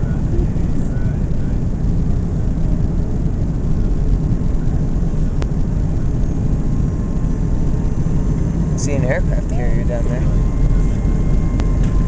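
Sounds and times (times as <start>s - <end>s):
airplane engines rumbling: 0.0s - 12.0s.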